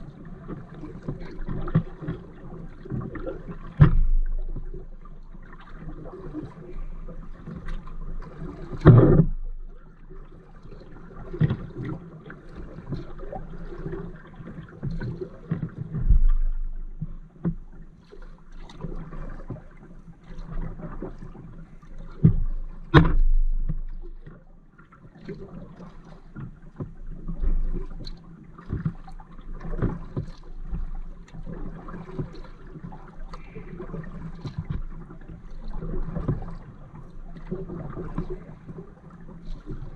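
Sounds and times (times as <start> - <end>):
paddle swishing through water: 0.0 - 39.9
paddle knocking hull: 0.1 - 39.9.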